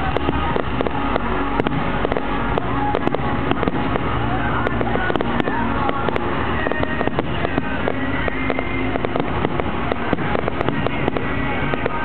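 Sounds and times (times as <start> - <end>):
fireworks cracking and popping: 0.0 - 12.0
low rushing noise: 0.0 - 12.0.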